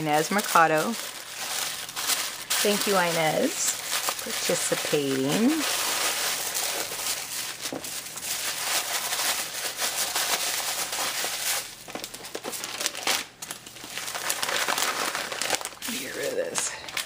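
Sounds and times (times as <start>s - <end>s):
paper crinkling and rustling: 0.0s - 17.0s.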